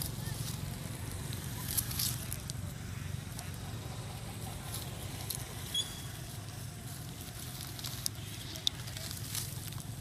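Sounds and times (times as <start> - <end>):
dry leaves crackling: 0.0 - 10.0.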